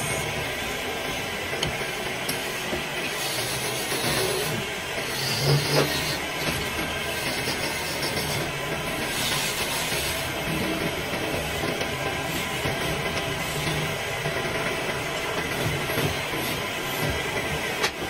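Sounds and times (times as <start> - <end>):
wood lathe hissing: 2.2 - 17.9.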